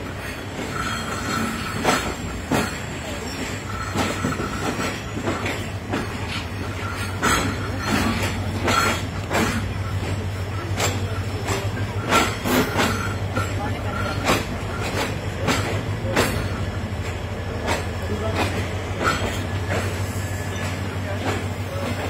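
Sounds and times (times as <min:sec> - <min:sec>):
train wheels clacking over joints: 0:00.0 - 0:22.0.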